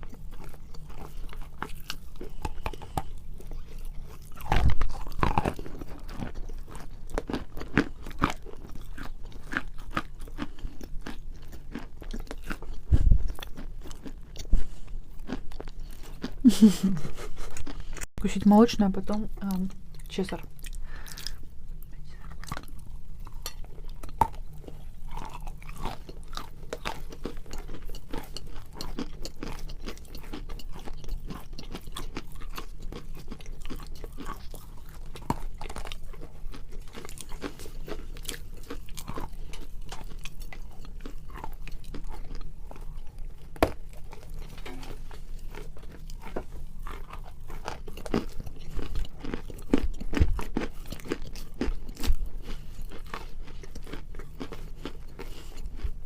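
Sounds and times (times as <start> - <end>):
chalk being chewed: 0.0 - 18.1, 20.6 - 56.0.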